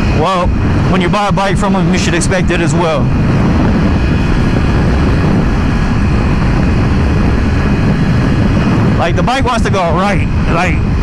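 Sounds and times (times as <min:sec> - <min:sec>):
motorcycle engine running: 0:00.0 - 0:11.0
wind rushing on microphone: 0:00.0 - 0:11.0.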